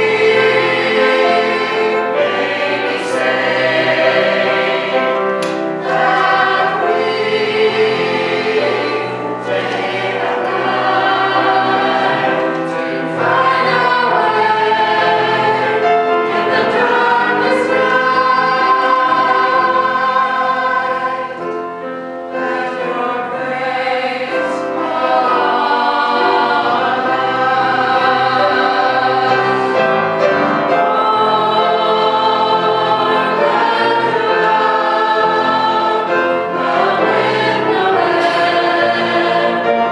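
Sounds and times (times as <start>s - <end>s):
choir singing held chords: 0.0s - 39.9s.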